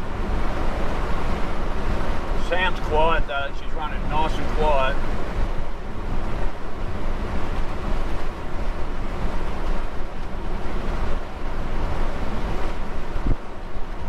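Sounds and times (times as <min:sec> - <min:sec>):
car driving heard from cabin: 0:00.0 - 0:14.0.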